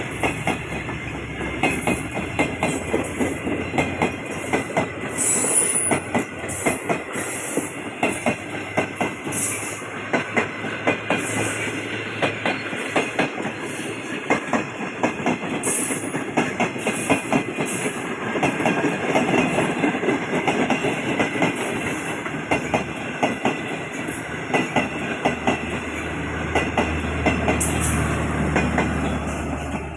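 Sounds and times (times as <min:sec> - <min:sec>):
train rumble: 0:00.0 - 0:29.9
train wheels clacking: 0:00.0 - 0:29.9.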